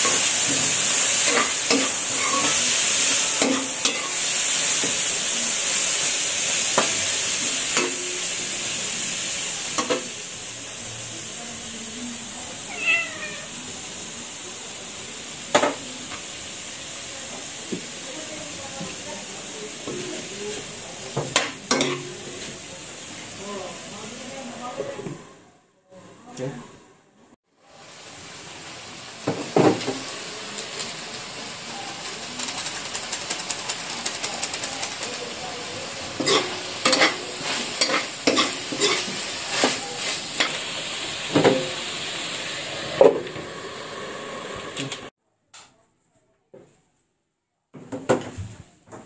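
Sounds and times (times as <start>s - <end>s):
food sizzling in a wok: 0.0s - 25.2s, 27.5s - 45.1s.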